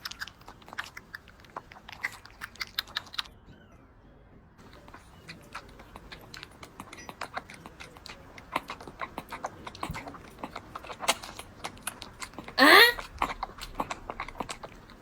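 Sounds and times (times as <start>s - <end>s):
kitten drinking milk: 0.0s - 15.0s.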